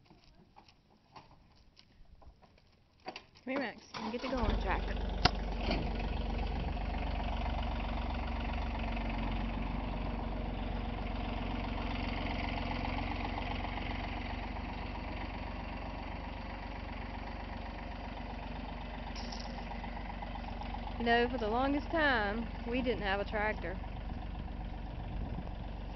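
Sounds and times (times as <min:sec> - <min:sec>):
tractor diesel engine running: 0:03.5 - 0:25.9.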